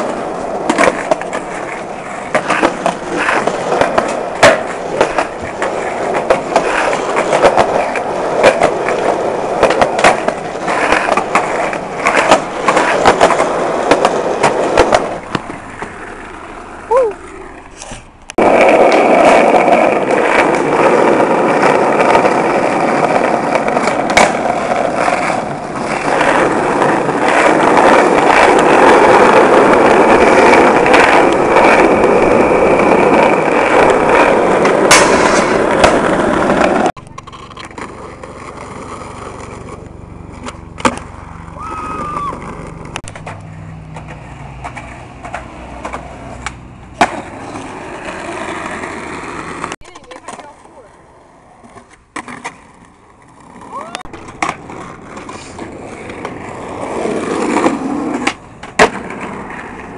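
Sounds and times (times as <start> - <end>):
skateboard wheels rolling on pavement: 0.0 - 59.9.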